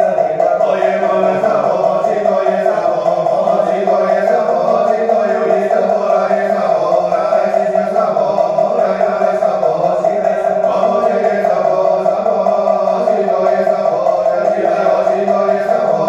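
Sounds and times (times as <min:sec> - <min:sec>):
devotional chanting: 0:00.0 - 0:16.0
musical accompaniment: 0:00.0 - 0:16.0
steady held tone: 0:00.0 - 0:16.0.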